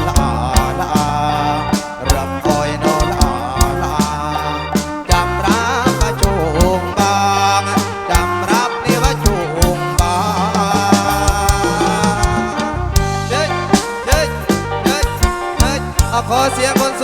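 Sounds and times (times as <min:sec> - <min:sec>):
steady drumbeat: 0:00.0 - 0:17.0
wavering lead melody: 0:00.0 - 0:17.0.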